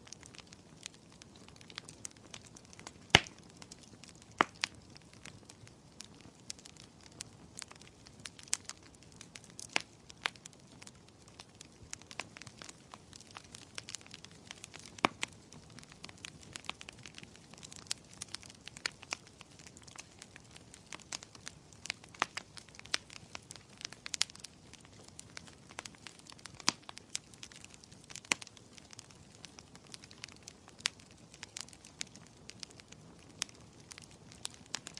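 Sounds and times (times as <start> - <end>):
logs crackling and popping: 0.0 - 34.9
soft fire hiss: 0.0 - 34.9.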